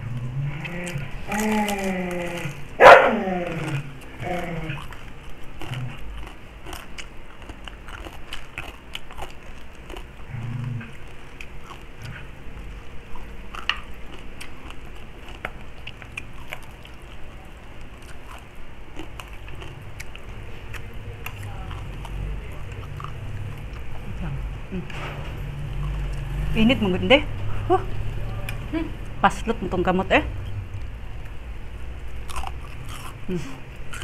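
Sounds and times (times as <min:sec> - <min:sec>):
chewing crispy food: 0:00.0 - 0:26.6, 0:30.8 - 0:34.0.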